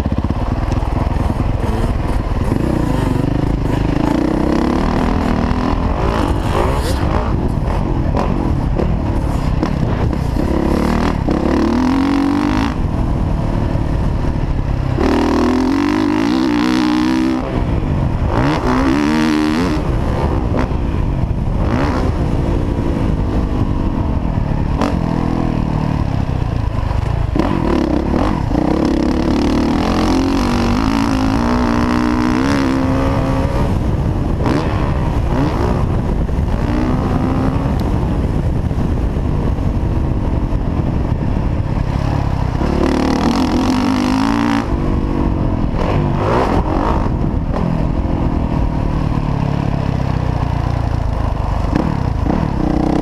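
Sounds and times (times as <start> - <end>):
dirt bike engine revving: 0.0 - 38.9, 41.9 - 48.3, 51.2 - 53.0
steady rushing noise: 0.0 - 53.0.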